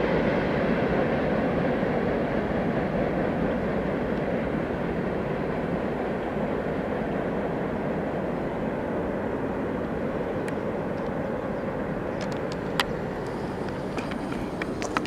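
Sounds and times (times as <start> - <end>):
distant vehicle rumble: 1.0 - 15.0.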